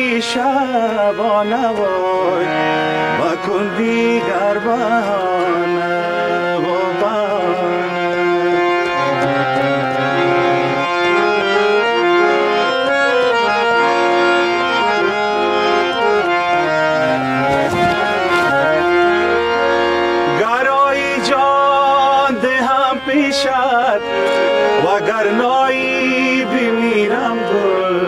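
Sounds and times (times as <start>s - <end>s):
harmonium melody: 0.0s - 28.0s.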